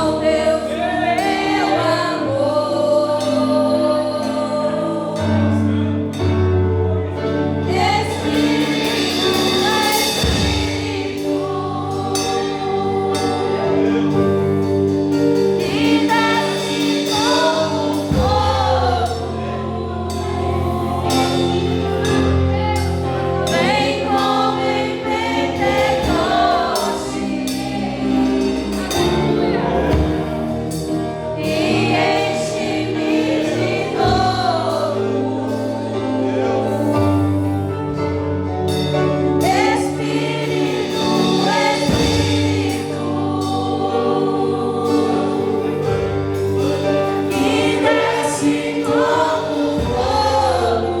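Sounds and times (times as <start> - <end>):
group singing a hymn: 0.0 - 51.0
instrumental backing with bass: 0.0 - 51.0.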